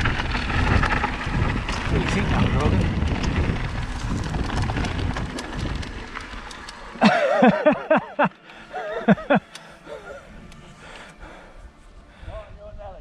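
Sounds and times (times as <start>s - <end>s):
mountain bike rolling on trail: 0.0s - 12.3s
wind: 0.0s - 13.0s.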